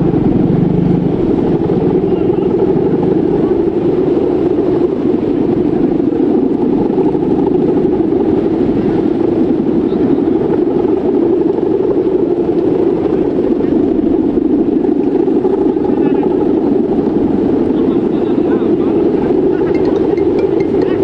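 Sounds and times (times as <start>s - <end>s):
kite hummer bow buzzing: 0.0s - 21.0s.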